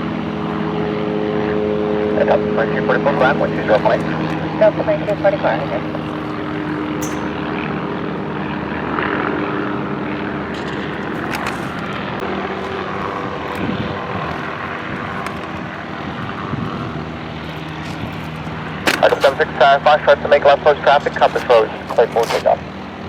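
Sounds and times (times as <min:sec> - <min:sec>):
aircraft engines droning: 0:00.0 - 0:23.0.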